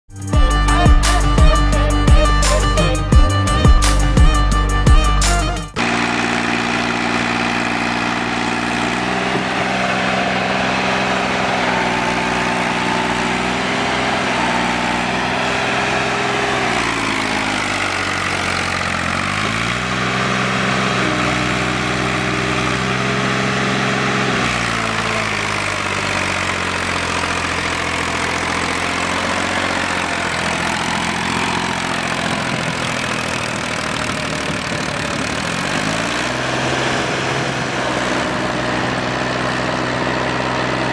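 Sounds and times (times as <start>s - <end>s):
tractor diesel engine labouring: 0.1s - 40.9s.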